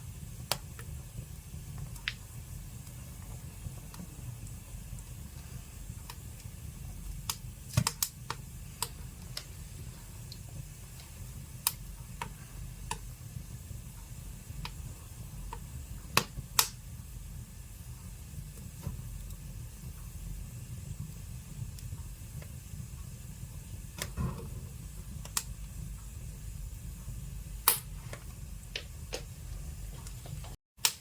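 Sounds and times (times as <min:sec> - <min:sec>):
low fire rumble: 0:00.0 - 0:30.6
wood fire crackling and popping: 0:00.0 - 0:31.0.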